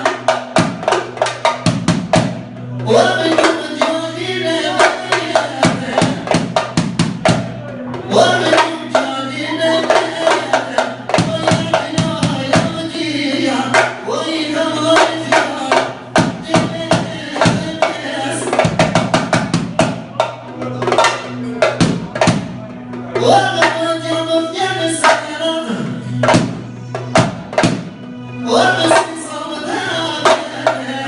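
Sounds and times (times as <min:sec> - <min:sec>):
music with drum beat and melody: 0:00.0 - 0:31.0.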